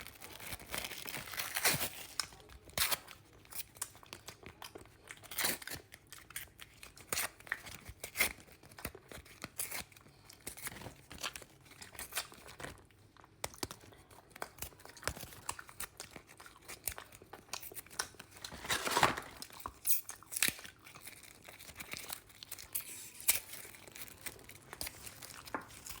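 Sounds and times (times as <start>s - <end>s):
flatbread tearing and chewing: 0.0s - 26.0s.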